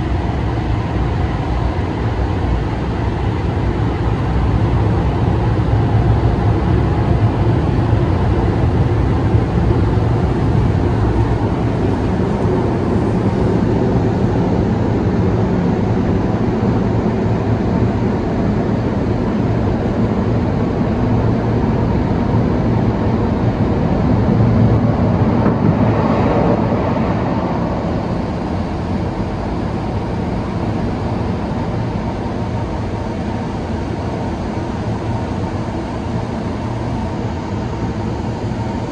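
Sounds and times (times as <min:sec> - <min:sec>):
car wash machine rumble and rush: 0:00.0 - 0:38.9.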